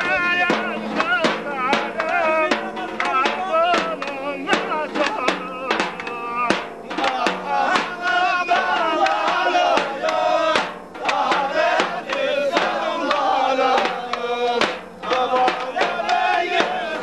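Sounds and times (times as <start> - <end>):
group singing or chanting: 0.0 - 17.0
music with sharp beats: 0.0 - 17.0.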